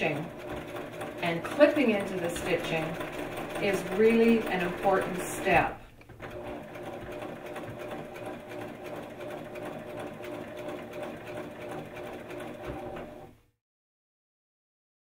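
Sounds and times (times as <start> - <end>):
sewing machine running: 0.0 - 13.4.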